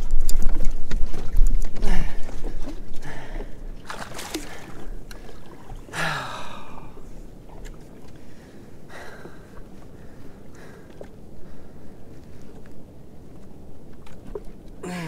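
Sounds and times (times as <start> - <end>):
water sloshing against jet ski: 0.0 - 14.9.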